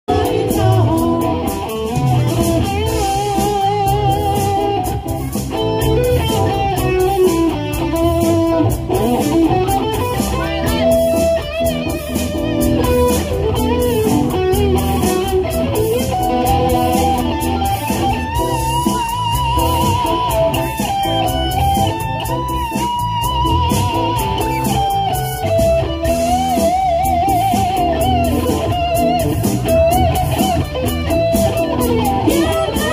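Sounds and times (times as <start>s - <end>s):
live pop-rock band: 0.1s - 32.9s.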